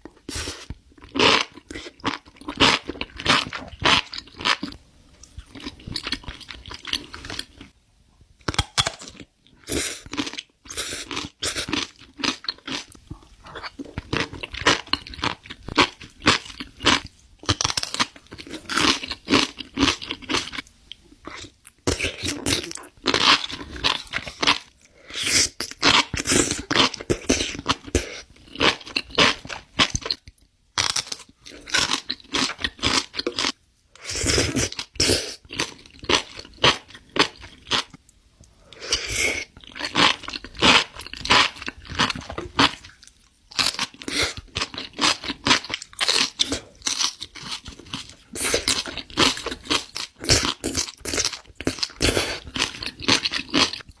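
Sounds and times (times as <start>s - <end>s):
crunchy chewing of food: 0.0s - 7.8s, 8.5s - 38.0s, 38.7s - 54.0s.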